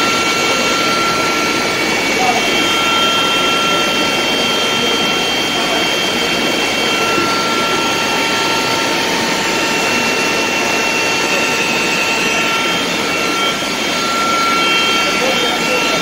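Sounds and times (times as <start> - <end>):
high mechanical whine: 0.0 - 16.0.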